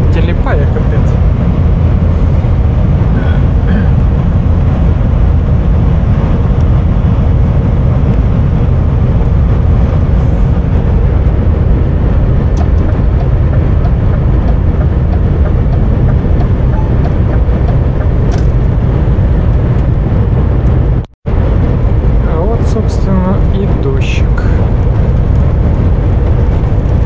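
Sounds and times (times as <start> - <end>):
truck cab low rumble: 0.0 - 27.0.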